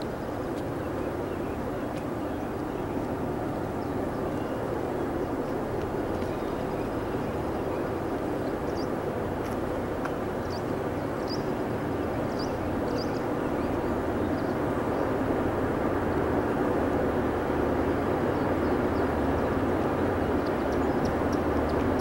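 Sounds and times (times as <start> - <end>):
distant diesel locomotive rumble: 0.0 - 22.0.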